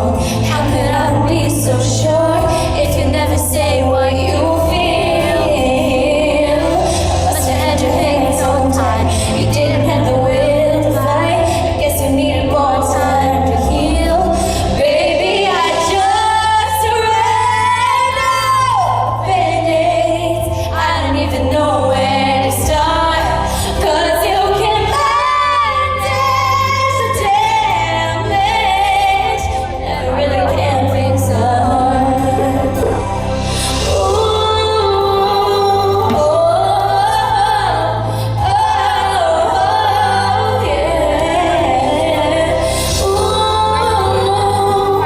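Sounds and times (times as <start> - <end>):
woman singing a pop ballad: 0.0 - 45.0.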